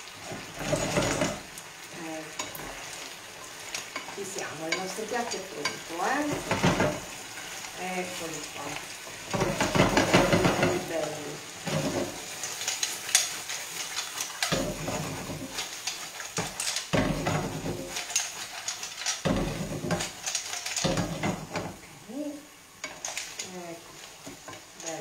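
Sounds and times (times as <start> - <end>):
food sizzling in a pan: 0.0 - 25.0
pan and utensil scraping: 0.0 - 25.0.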